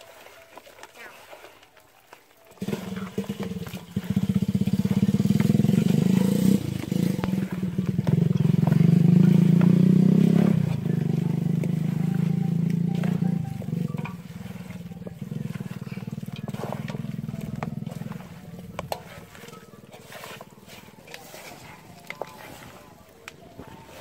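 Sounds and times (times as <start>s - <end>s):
small engine running: 2.6s - 24.0s.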